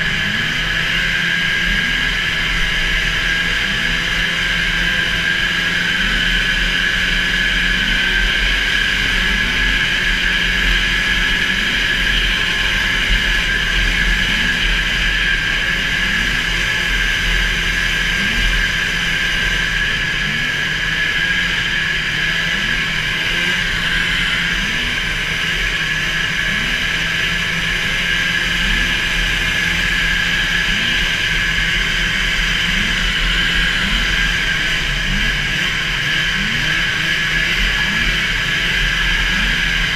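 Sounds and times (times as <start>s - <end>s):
snowmobile engine at high revs: 0.0s - 39.9s.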